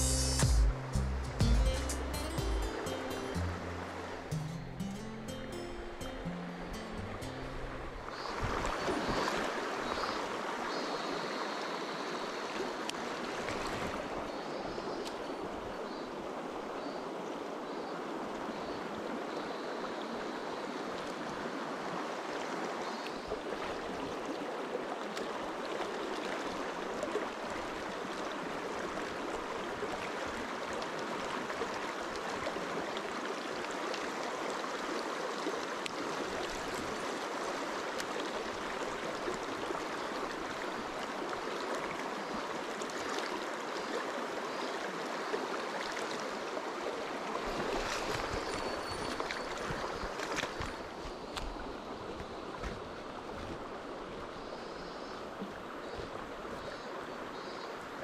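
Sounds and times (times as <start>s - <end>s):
stream rushing over rocks: 1.6s - 54.6s.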